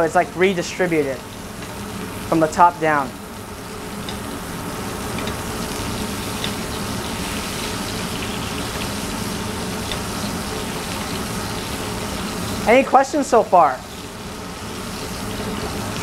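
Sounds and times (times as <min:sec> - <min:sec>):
steak sizzling in oil: 0:00.0 - 0:16.0.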